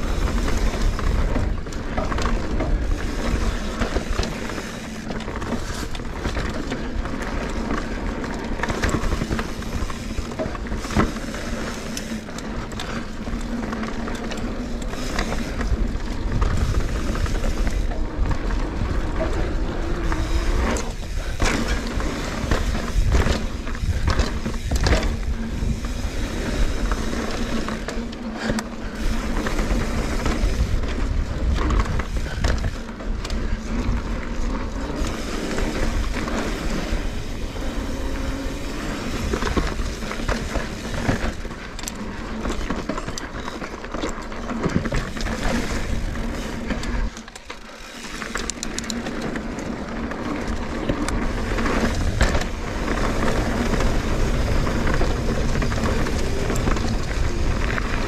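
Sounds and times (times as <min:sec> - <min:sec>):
bike rattles and clicks: 0:00.0 - 0:58.0
tyres rumbling on dirt: 0:00.0 - 0:58.0.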